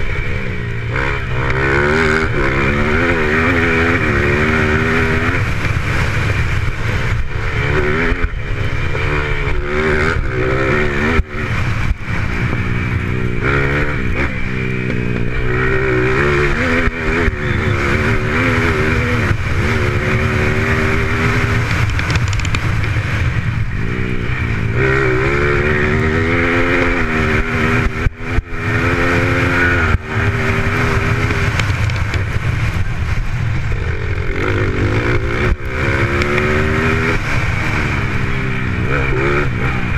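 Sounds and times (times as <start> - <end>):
motocross bike engines racing: 0.0 - 39.9.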